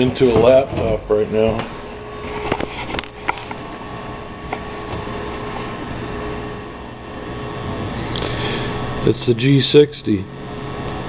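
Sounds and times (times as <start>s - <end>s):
fan hum: 0.0s - 11.0s.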